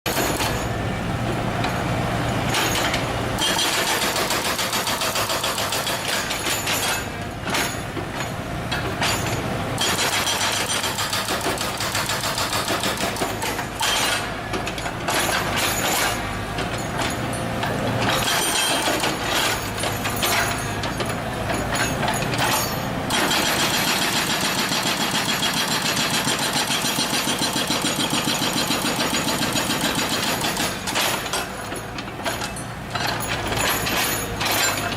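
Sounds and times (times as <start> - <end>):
diesel engine running: 0.1 - 34.9
hydraulic breaker hammering: 0.1 - 34.9.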